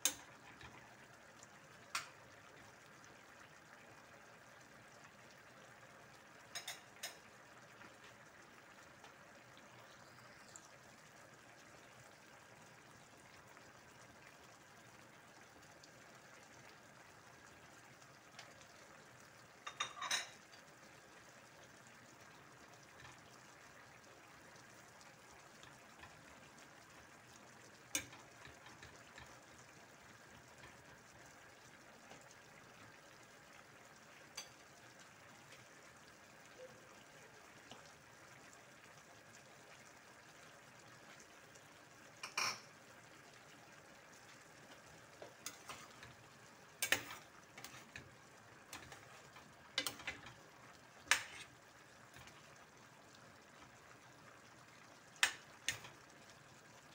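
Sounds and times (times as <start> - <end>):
stew simmering and bubbling: 0.0 - 56.9.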